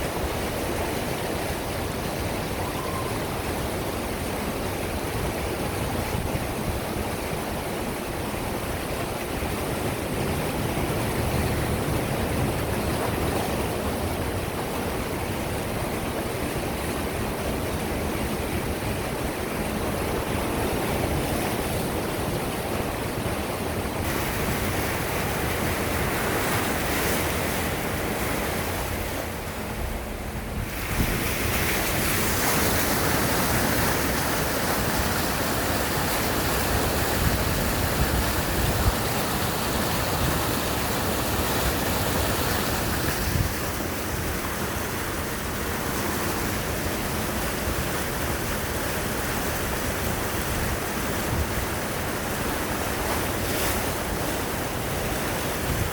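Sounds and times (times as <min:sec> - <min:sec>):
wind on microphone: 0:00.0 - 0:55.9.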